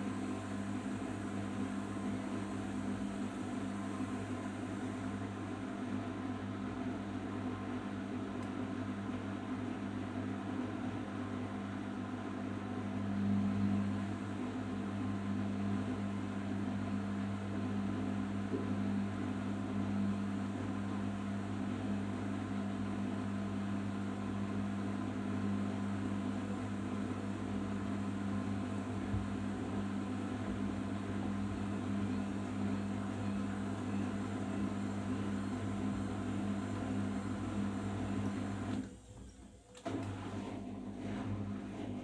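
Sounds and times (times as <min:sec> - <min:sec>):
washing machine spinning: 0:00.0 - 0:42.0.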